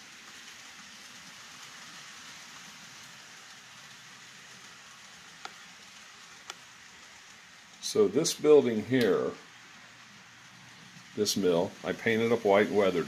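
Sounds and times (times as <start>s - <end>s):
model train wheels hissing: 0.0s - 13.0s.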